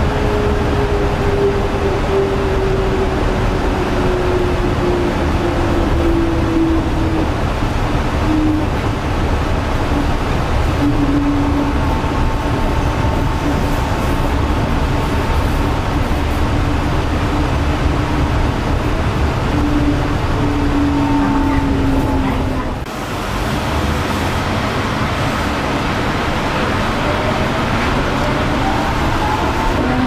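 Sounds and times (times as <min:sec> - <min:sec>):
train running with steady rumble: 0:00.0 - 0:30.0.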